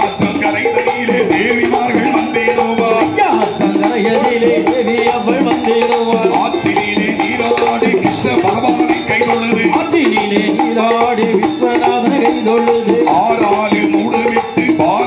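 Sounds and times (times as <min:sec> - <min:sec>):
bow bells jingling: 0:00.0 - 0:15.0.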